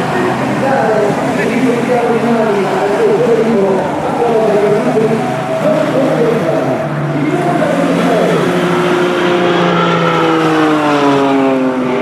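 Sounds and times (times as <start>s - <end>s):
propeller plane engine: 0.0s - 12.0s.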